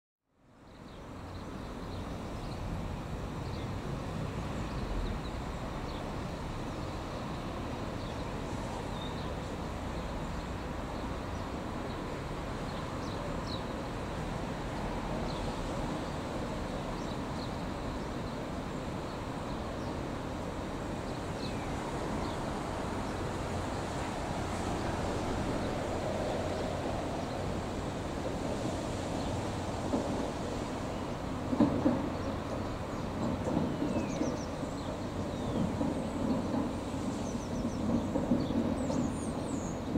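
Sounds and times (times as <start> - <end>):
electric train rumbling: 1.0 - 39.9.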